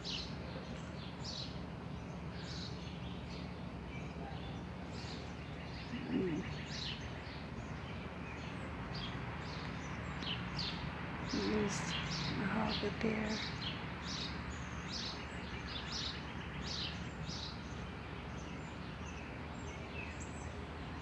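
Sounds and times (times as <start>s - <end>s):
low background hum: 0.0s - 21.0s
small birds chirping: 0.0s - 21.0s.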